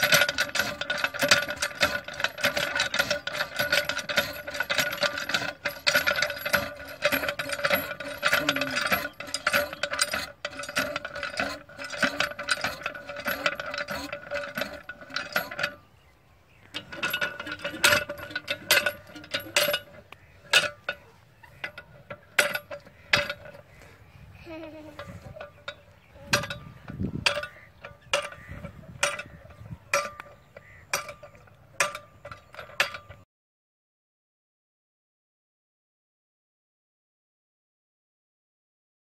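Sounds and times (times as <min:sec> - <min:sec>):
steady ringing: 0:00.0 - 0:23.8, 0:24.6 - 0:33.2
hand pump parts clinking: 0:00.0 - 0:33.2.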